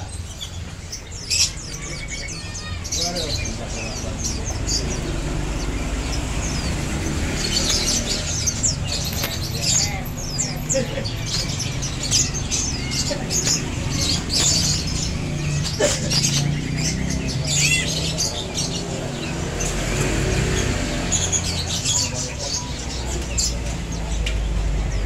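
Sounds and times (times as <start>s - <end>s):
young birds chirping: 0.0s - 25.0s.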